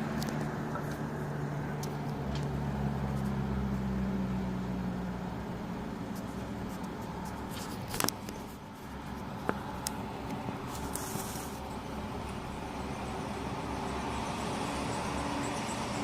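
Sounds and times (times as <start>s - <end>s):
steady low traffic rumble: 0.0s - 16.0s
vehicle engine hum: 0.0s - 16.0s.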